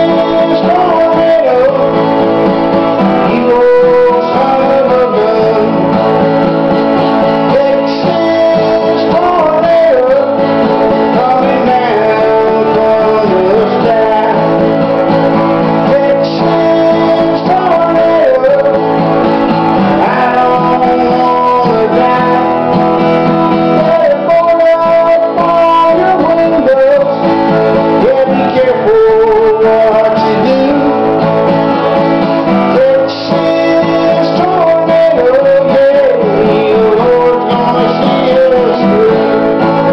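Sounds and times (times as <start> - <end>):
harmonica melody: 0.0 - 39.9
strummed acoustic guitar: 0.0 - 39.9.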